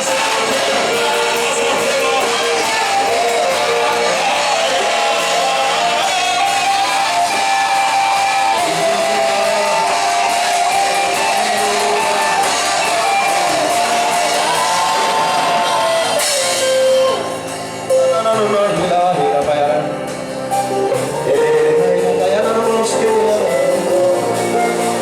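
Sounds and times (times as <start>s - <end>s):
electric guitar: 0.0s - 25.0s
live band music: 0.0s - 25.0s
people singing: 0.0s - 25.0s.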